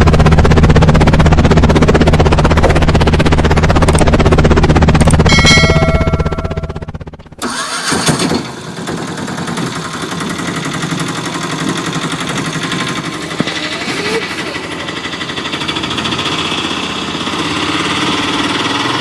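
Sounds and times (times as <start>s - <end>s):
engine-like sound running: 0.0s - 19.0s.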